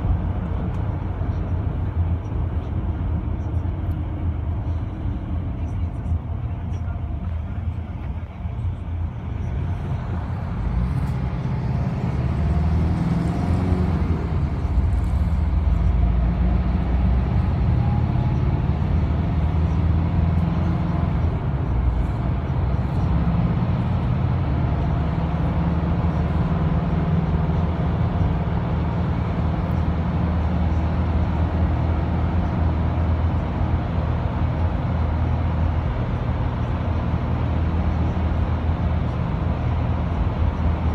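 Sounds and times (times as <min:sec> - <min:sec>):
minibus engine and tyre drone: 0:00.0 - 0:40.9.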